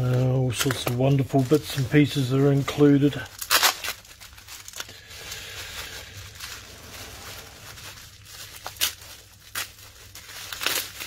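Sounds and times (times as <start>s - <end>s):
bubble wrap crinkling: 0.0s - 11.0s
bubble wrap snaps: 0.0s - 11.0s.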